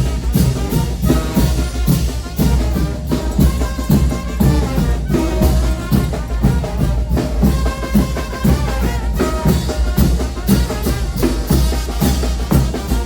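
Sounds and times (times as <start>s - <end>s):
steady drum beat: 0.0s - 13.0s
trumpets playing melody: 0.0s - 13.0s.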